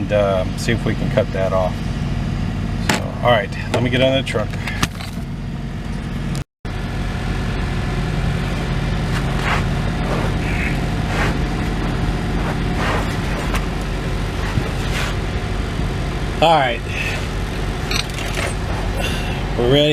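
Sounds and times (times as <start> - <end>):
truck engine idling: 0.0 - 19.9.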